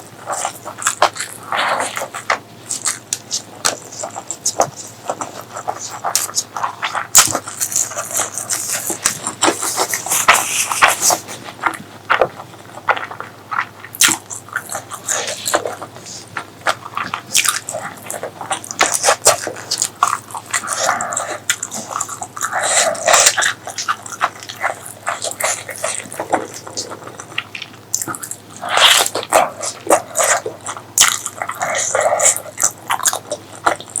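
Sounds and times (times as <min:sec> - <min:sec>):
wet chewing and mouth smacks: 0:00.0 - 0:34.0.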